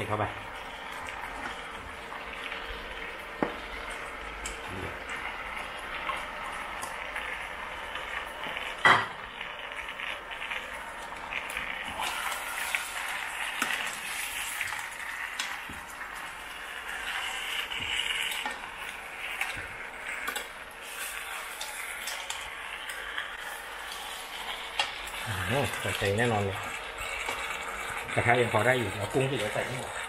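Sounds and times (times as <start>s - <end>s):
seafood sizzling in a frying pan: 0.0s - 30.0s.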